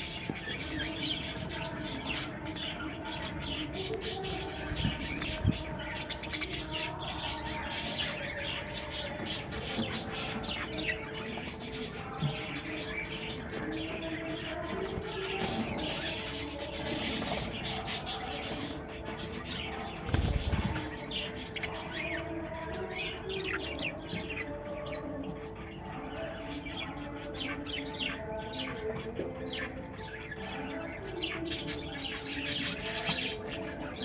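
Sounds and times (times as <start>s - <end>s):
birds chirping and chattering: 0.0s - 34.0s.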